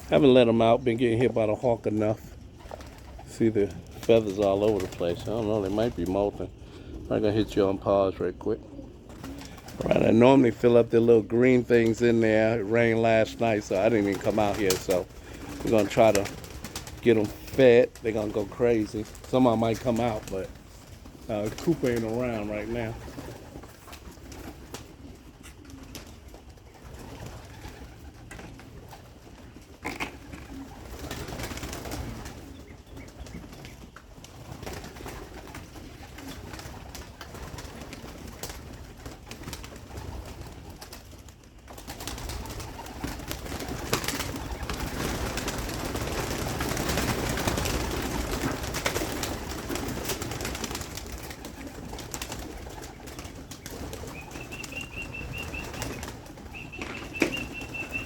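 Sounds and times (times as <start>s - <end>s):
pigeons cooing: 0.0s - 58.0s
pigeons rustling: 0.0s - 58.0s.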